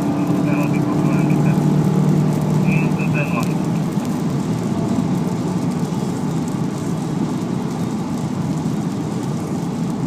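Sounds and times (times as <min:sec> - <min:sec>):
car engine driving: 0:00.0 - 0:10.0
tyres hissing on wet road: 0:00.0 - 0:10.0.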